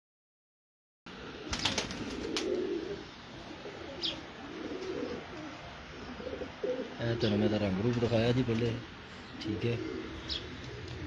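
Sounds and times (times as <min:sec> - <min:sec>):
pigeons cooing: 0:01.1 - 0:11.0.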